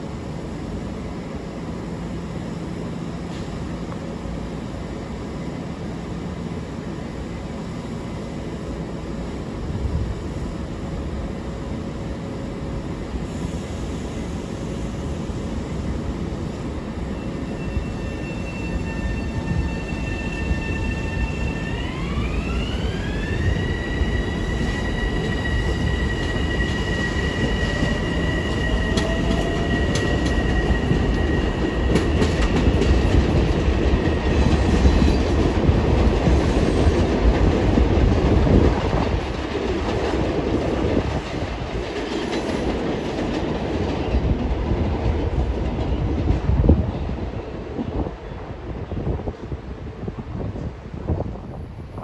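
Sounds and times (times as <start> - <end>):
electric train whine: 0.0 - 52.0
wheels rumbling on rail: 0.0 - 52.0.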